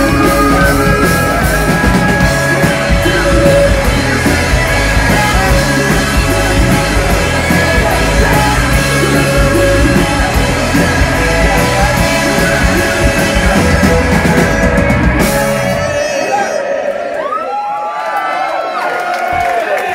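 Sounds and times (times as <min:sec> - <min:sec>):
punk rock band playing: 0:00.0 - 0:16.8
sung and shouted vocals: 0:00.0 - 0:17.7.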